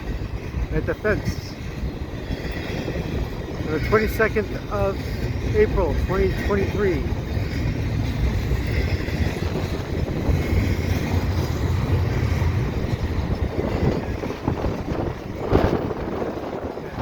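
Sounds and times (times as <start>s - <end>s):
train wheels rumbling on rail: 0.0s - 17.0s
wind buffeting microphone: 0.0s - 17.0s.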